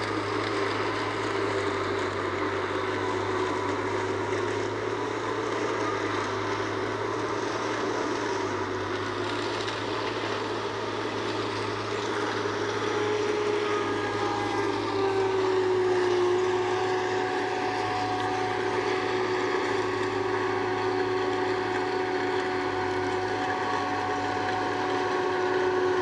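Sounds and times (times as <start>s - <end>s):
harvester machinery drone: 0.0s - 26.0s.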